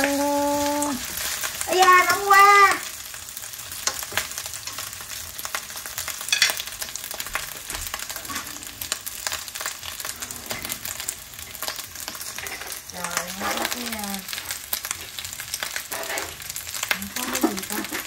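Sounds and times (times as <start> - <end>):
food sizzling in a skillet: 0.0 - 18.0.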